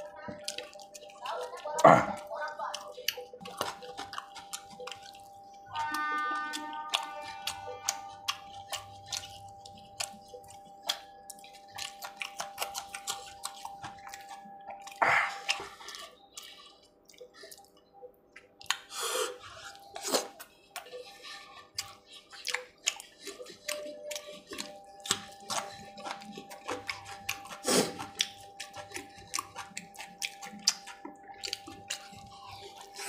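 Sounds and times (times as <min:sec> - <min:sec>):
wet chewing and lip smacking: 0:00.0 - 0:33.0.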